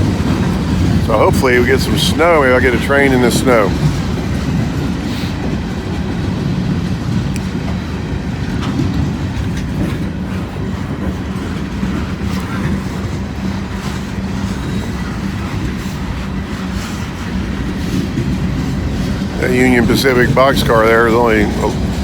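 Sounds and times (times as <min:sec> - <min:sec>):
freight train cars rumbling: 0:00.0 - 0:22.0
wheels clicking over rail joints: 0:00.0 - 0:22.0.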